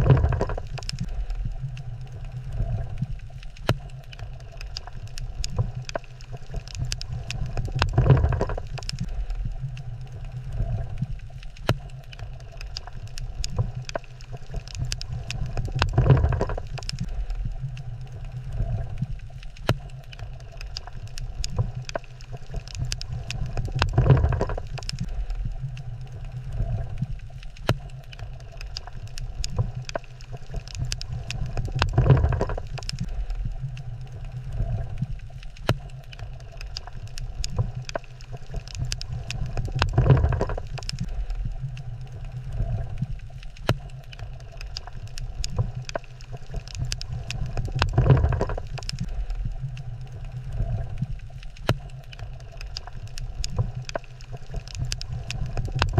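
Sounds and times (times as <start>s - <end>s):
crackling clicks underwater: 0.0s - 55.9s
low underwater rumble: 0.0s - 55.9s.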